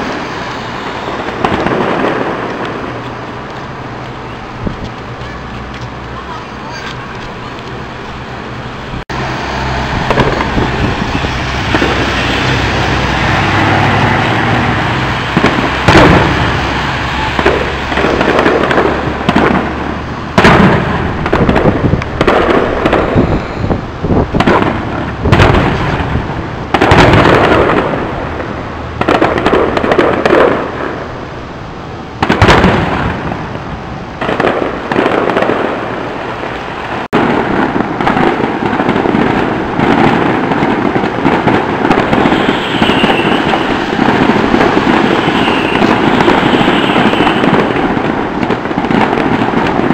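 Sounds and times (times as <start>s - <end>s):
firework shells bursting: 0.0s - 31.2s, 32.2s - 49.9s
firework crackling: 0.0s - 49.9s.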